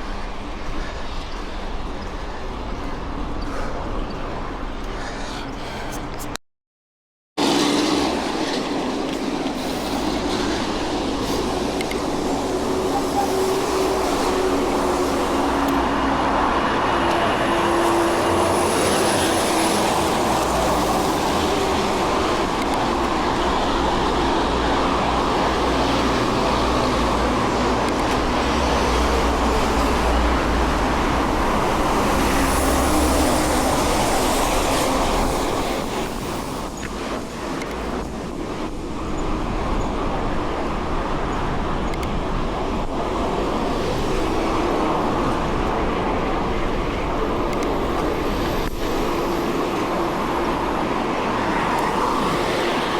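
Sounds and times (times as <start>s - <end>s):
bicycle tyres rolling on road: 7.4s - 52.9s
wind buffeting microphone: 7.4s - 52.9s.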